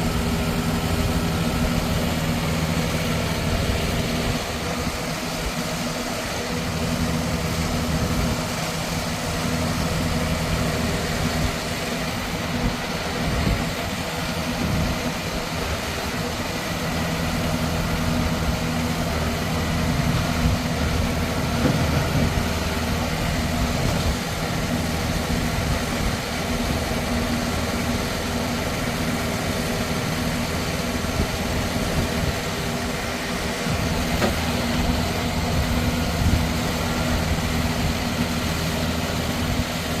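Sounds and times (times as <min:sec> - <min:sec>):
baler engine running: 0:00.0 - 0:40.0.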